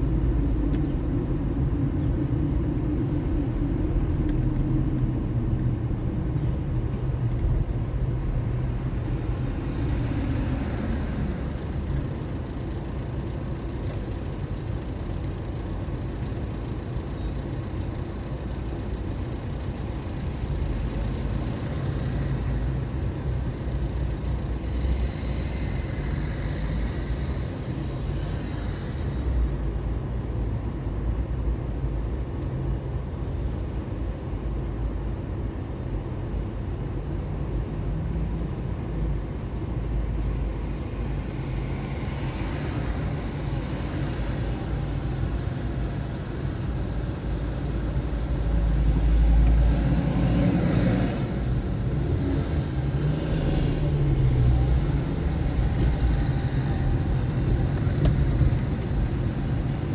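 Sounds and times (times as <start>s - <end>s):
car engine and tyres rumbling: 0.0s - 59.9s
vehicles passing: 0.0s - 59.9s.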